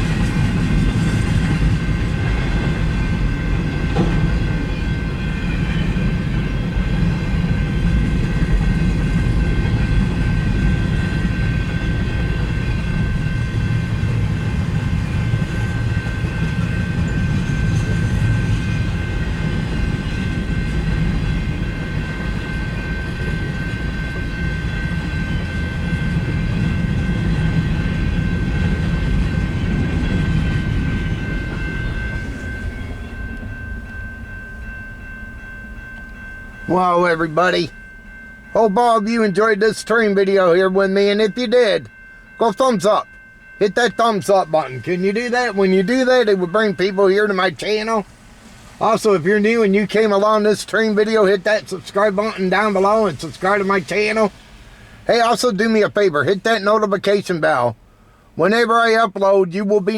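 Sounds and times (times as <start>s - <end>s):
freight train cars rumbling past: 0.0s - 59.9s.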